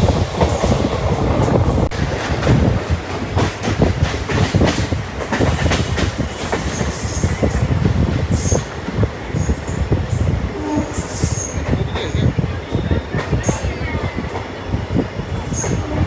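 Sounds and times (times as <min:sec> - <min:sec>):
train carriage rumbling: 0:00.0 - 0:16.0.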